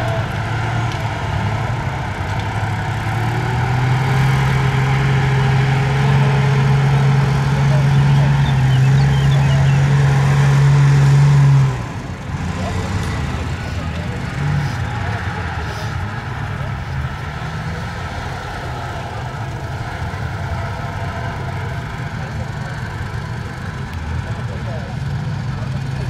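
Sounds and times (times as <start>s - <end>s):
truck engine driving through mud: 0.0s - 26.0s.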